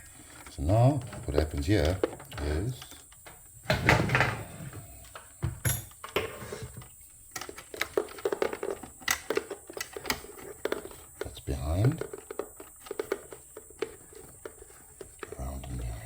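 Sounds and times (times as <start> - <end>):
hands handling wiring: 0.0 - 15.9.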